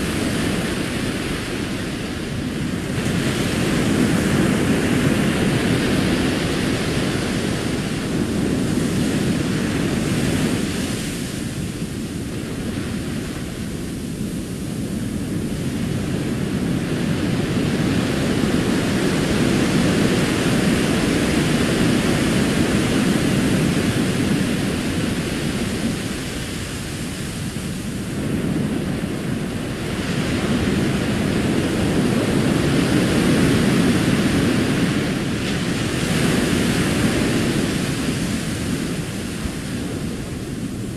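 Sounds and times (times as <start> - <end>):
ocean surf breaking on beach: 0.0 - 40.9.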